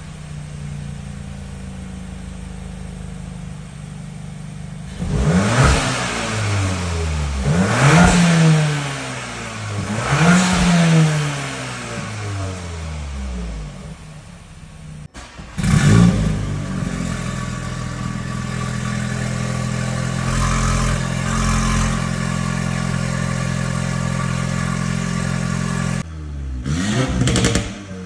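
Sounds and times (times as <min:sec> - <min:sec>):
car engine revving and droning: 0:00.0 - 0:28.0.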